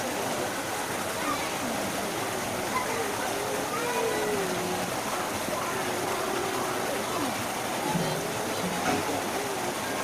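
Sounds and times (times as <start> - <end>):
faint distant voices: 0.0 - 10.0
running water rushing: 0.0 - 10.0.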